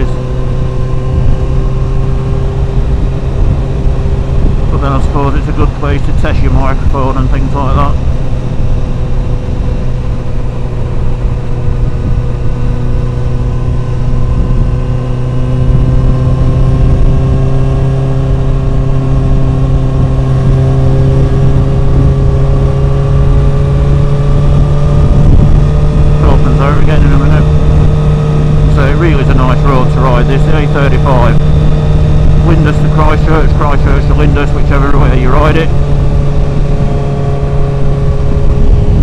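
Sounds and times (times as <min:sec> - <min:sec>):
low wind rumble: 0:00.0 - 0:39.0
motorcycle engine drone: 0:00.0 - 0:39.0.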